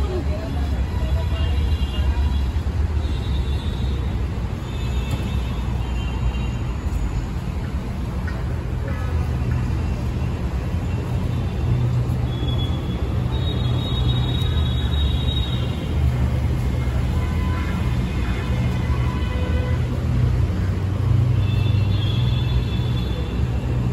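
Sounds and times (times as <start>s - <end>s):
road traffic rumble: 0.0s - 23.9s.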